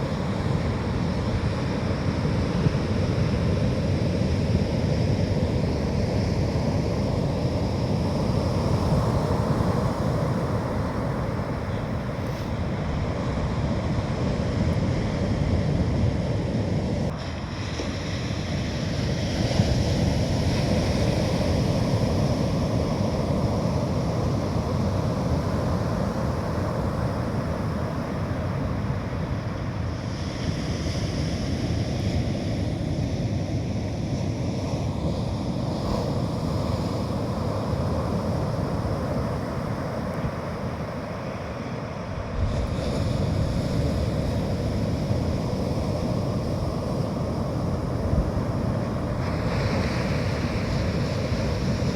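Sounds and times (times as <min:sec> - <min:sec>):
sea surf washing on beach: 0:00.0 - 0:51.9
wind buffeting microphone: 0:00.0 - 0:51.9.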